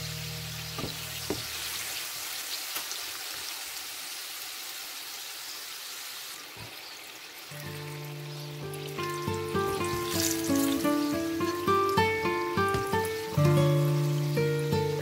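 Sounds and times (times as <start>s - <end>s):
frying food sizzling in oil: 0.0s - 15.0s.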